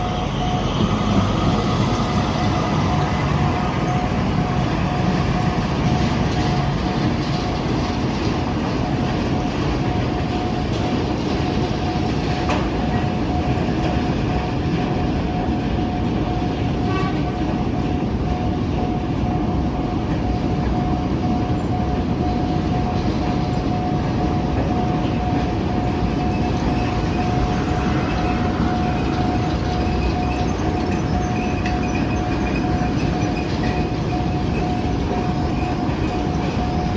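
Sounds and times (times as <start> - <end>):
diesel train rumbling over rails: 0.0 - 36.9.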